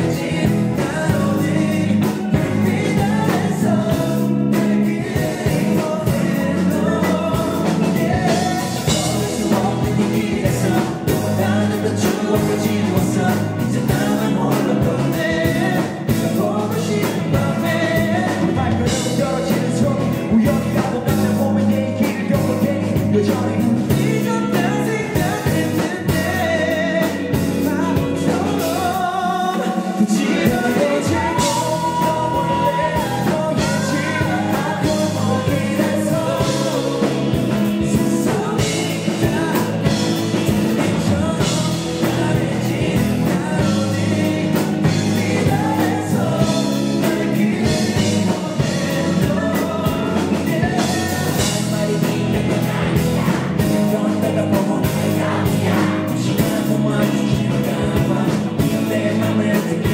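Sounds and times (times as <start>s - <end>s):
electric bass: 0.0s - 59.9s
live rock band playing: 0.0s - 59.9s
person singing: 0.0s - 59.9s.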